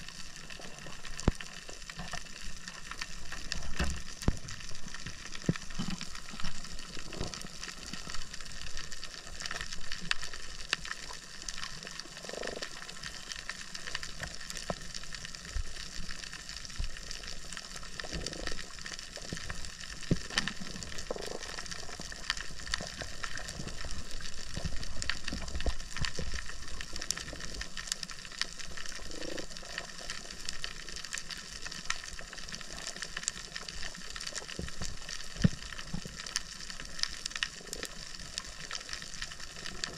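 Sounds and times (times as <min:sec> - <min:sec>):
low rumble of water movement: 0:00.0 - 0:39.9.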